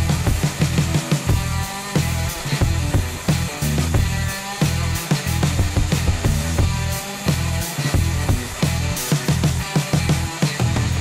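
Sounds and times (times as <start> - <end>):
bass line: 0.0 - 11.0
steady drum beat: 0.0 - 11.0.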